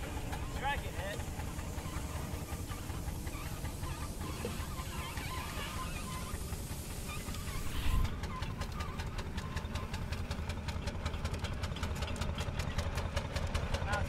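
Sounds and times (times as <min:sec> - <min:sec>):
steam engine chuffing: 0:00.0 - 0:14.0.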